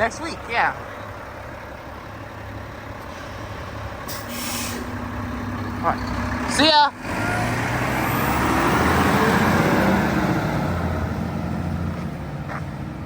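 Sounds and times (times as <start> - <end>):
garbage truck engine pulling away: 0.4 - 13.0.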